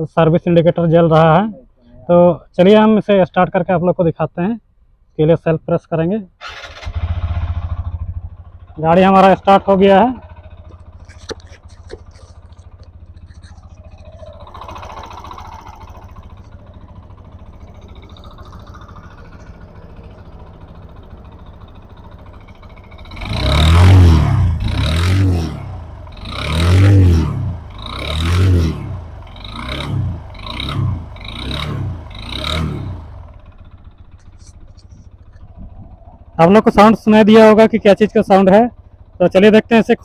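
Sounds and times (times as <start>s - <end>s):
motorcycle engine idling and revving: 6.3s - 40.0s.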